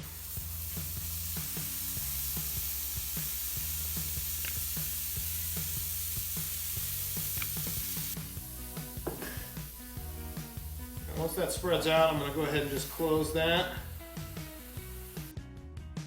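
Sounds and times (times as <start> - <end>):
batter sizzling on waffle iron: 0.0 - 15.4.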